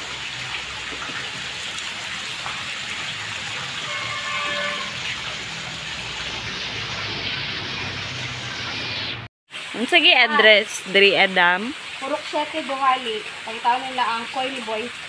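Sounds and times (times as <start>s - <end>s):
water splashing into tank: 0.0s - 15.0s.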